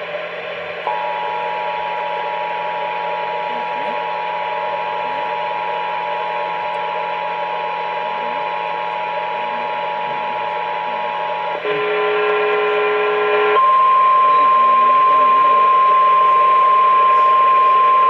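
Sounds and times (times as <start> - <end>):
two-tone alarm signal: 0.9 - 18.0.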